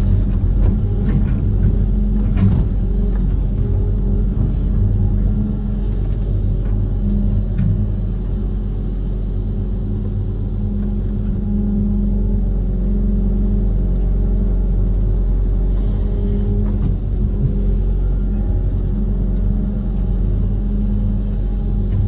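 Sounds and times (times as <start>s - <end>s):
excavator diesel engine humming: 0.0s - 22.0s.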